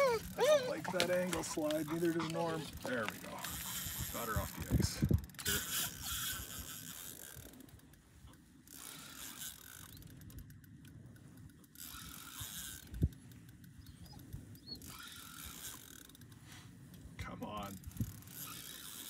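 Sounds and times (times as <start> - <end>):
fishing reel clicking and ratcheting: 0.0 - 19.0.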